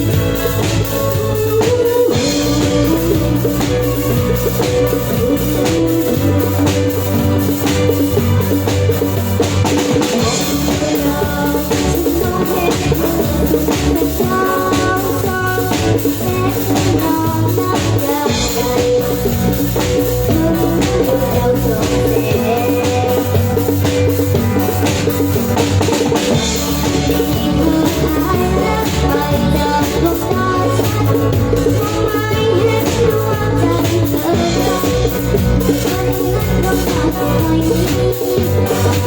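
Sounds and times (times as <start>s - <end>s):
drum kit beat: 0.0s - 39.0s
live band playing: 0.0s - 39.0s
sustained bass notes: 0.0s - 39.0s.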